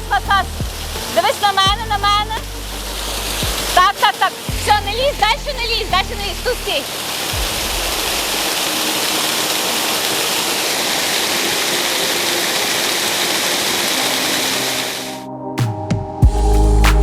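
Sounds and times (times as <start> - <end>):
waterfall rushing: 0.0 - 15.2.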